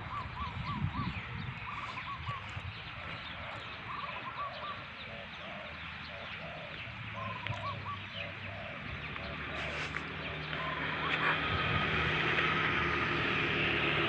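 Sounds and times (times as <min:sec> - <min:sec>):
birds calling and chirping: 0:00.0 - 0:14.0.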